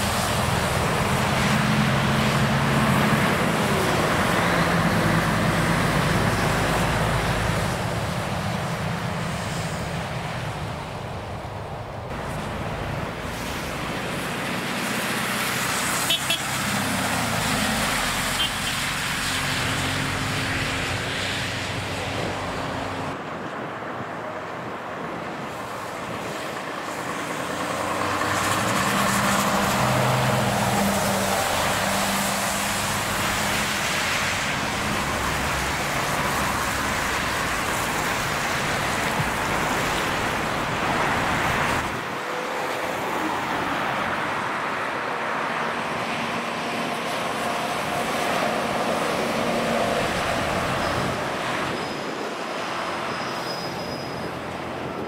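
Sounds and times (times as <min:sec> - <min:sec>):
motorway traffic passing: 0:00.0 - 0:55.0.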